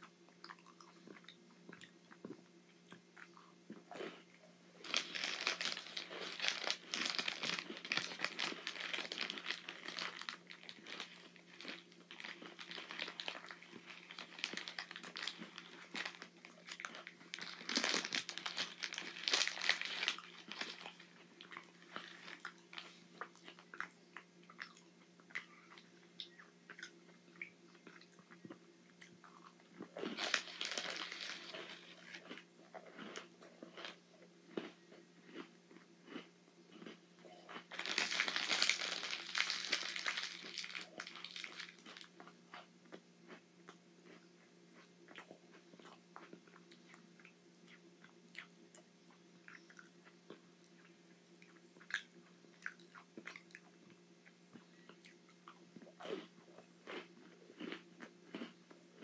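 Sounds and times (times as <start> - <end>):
crunching cookie: 0.4 - 53.7, 54.5 - 59.0.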